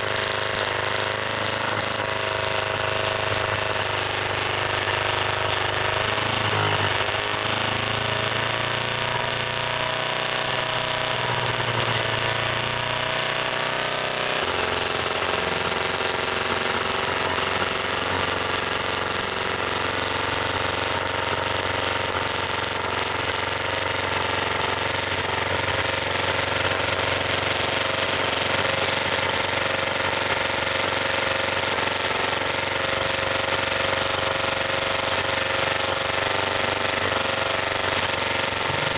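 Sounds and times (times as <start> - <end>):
miniature engine running: 0.0 - 38.9.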